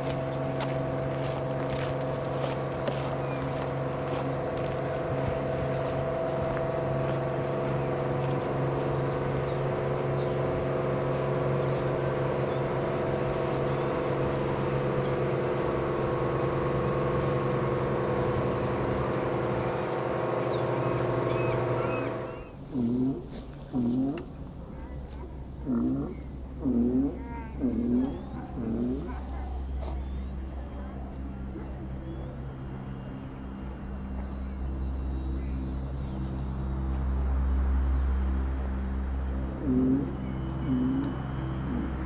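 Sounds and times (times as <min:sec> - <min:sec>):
boat diesel engine droning: 0:00.0 - 0:42.0.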